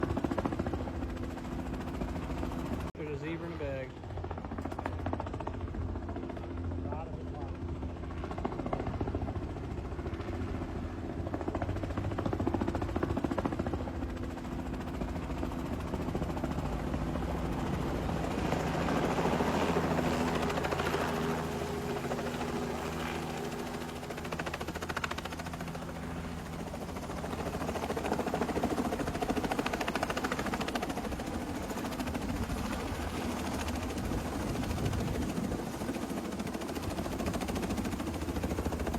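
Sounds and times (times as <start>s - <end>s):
helicopter rotor chop and drone: 0.0s - 38.9s.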